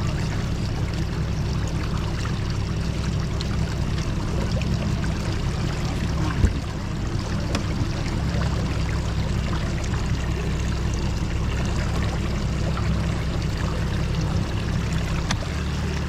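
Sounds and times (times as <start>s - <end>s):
water rushing: 0.0s - 16.0s
wind: 0.0s - 16.0s.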